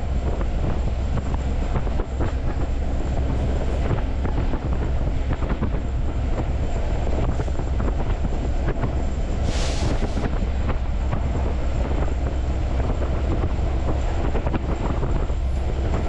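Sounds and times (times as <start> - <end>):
freight train rumble: 0.0 - 16.0
train knocks and rattles: 0.0 - 16.0.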